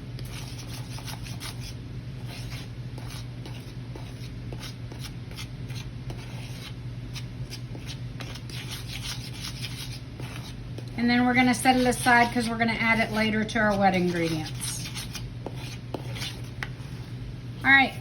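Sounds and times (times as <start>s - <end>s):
steady low hum: 0.0s - 18.0s
spoon scraping in mixing bowl: 0.2s - 17.2s.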